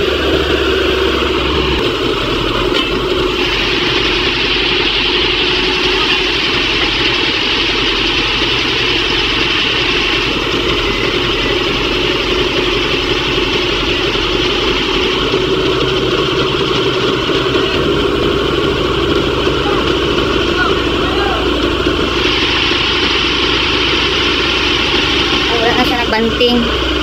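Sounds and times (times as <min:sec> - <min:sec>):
truck diesel engine running: 0:00.0 - 0:27.0.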